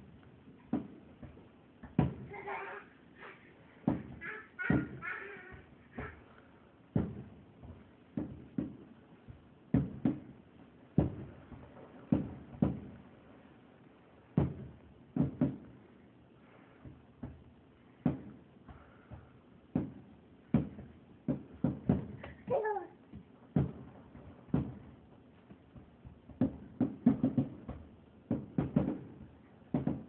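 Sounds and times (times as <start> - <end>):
muffled fireworks booms: 0.0 - 2.5, 3.7 - 30.0.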